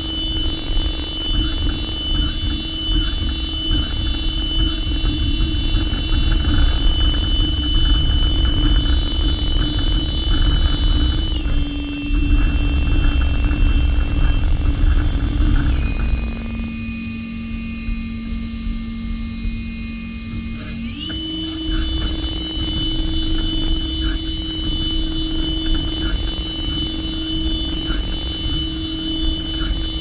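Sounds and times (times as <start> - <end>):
low machine rumble: 0.0 - 30.0
machine spindle whine: 0.0 - 30.0.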